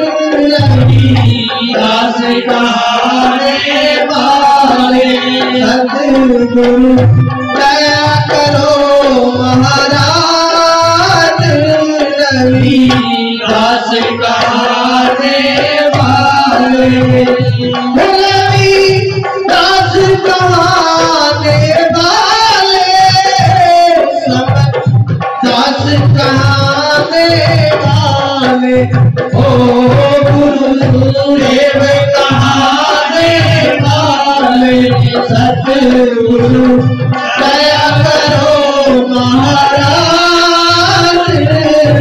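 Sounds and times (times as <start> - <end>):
hand drum beat: 0.0 - 42.0
harmonium: 0.0 - 42.0
man singing into microphone: 0.0 - 42.0.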